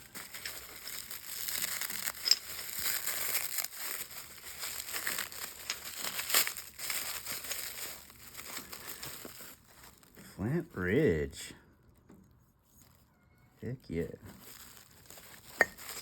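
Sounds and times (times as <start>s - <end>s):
packing wrap crinkling and tearing: 0.0s - 10.3s, 12.8s - 16.0s.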